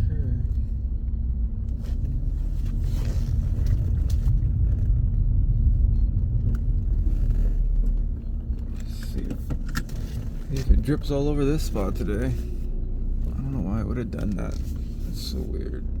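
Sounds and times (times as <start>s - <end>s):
car interior engine and road drone: 0.0s - 16.0s.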